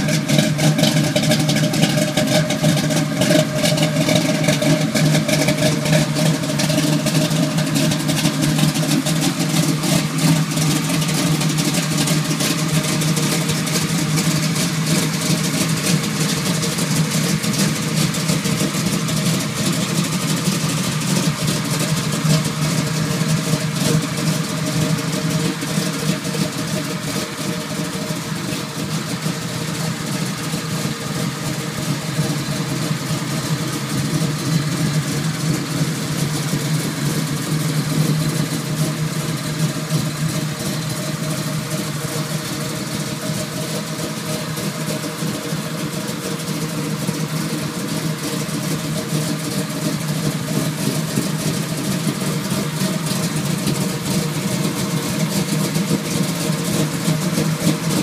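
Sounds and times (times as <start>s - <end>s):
vee-eight engine idling: 0.0s - 58.0s.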